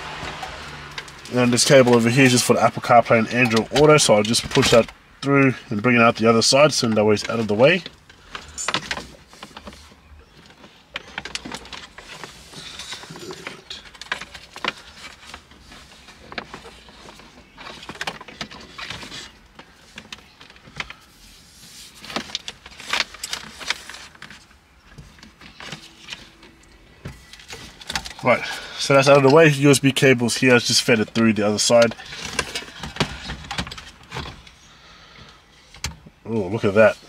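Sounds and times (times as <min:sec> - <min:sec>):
cable rustling: 0:00.0 - 0:37.0.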